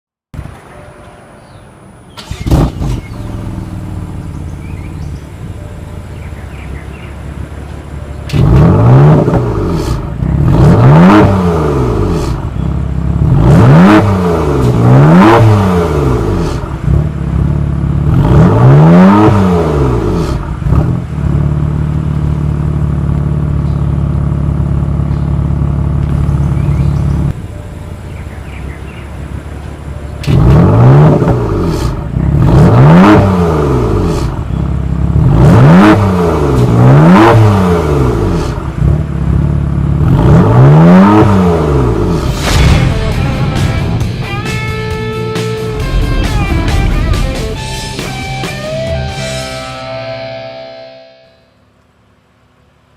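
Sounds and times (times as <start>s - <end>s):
car engine idling and revving: 1.4s - 52.9s.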